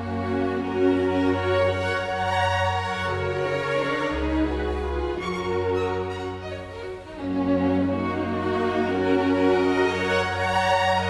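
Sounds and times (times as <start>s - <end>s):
slow sustained string notes: 0.0s - 11.0s.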